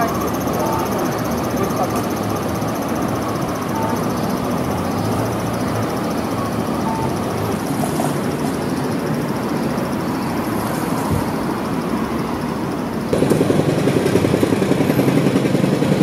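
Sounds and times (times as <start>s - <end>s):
city vehicle rumble: 0.0s - 16.0s.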